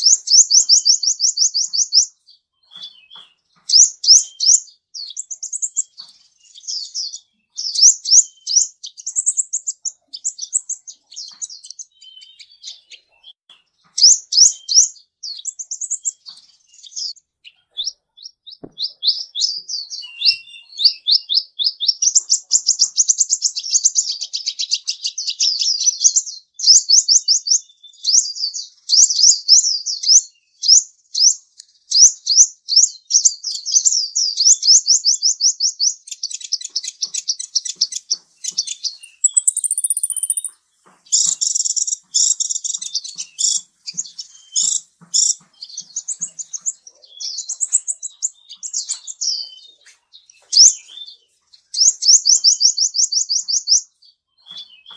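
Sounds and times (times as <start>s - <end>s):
small bird chirping: 0.0s - 54.9s.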